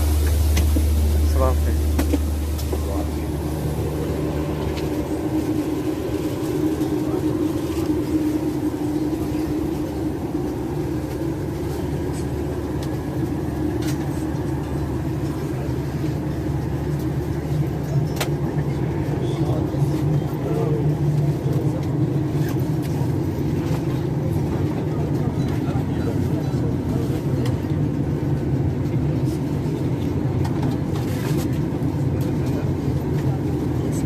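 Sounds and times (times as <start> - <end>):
airplane cabin hum: 0.0 - 34.0
murmur of voices: 0.9 - 30.9.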